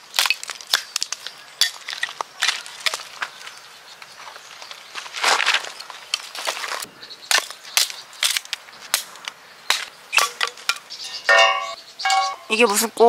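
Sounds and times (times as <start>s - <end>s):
firewood cracking: 0.0s - 10.9s.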